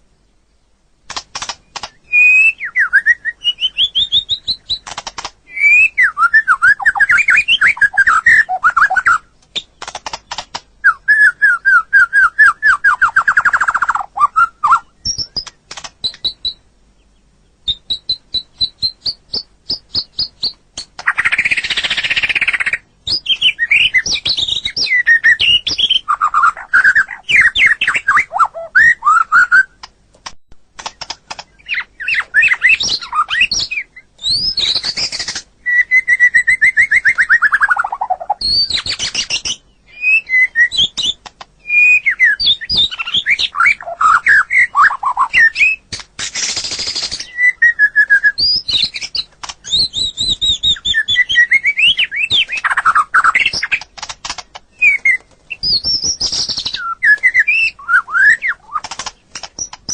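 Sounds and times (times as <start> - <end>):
songbird singing whistled phrases: 1.4 - 29.9, 30.8 - 53.9, 54.7 - 59.9.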